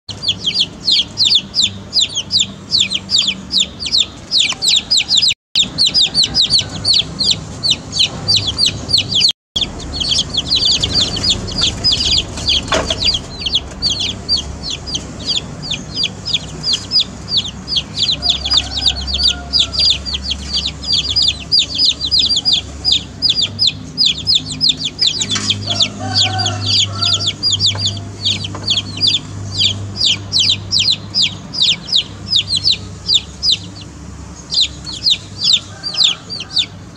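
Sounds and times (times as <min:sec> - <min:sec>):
baby chicks peeping: 0:00.1 - 0:36.9.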